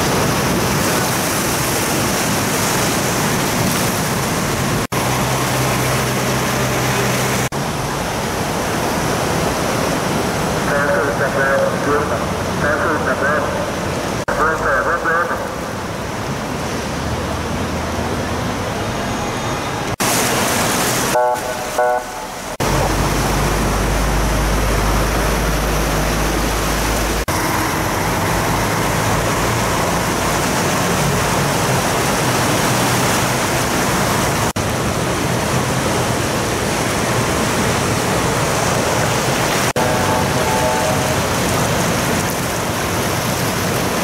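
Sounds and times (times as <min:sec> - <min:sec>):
heavy rain and floodwater hissing: 0:00.0 - 0:44.0.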